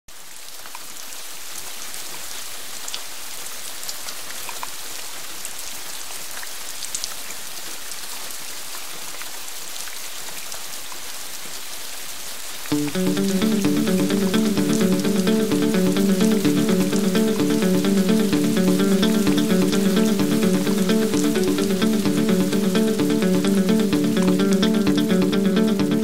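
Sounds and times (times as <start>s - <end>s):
steady rain hiss: 0.1s - 25.9s.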